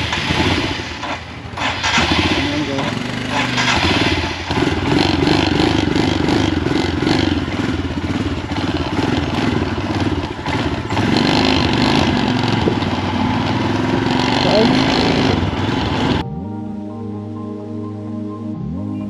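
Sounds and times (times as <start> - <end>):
motorcycle engine running: 0.0 - 16.2
steady rushing noise: 0.0 - 16.2.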